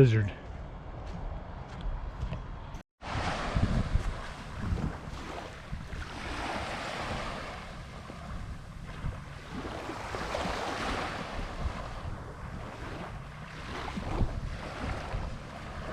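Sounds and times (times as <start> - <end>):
wind rumbling on microphone: 0.6 - 15.9
ocean waves washing ashore: 3.0 - 15.9.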